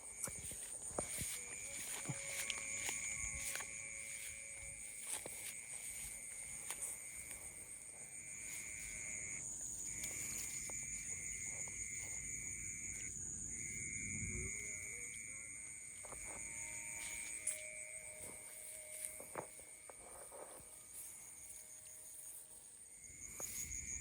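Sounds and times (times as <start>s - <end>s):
shrill insect chorus: 0.0s - 24.0s.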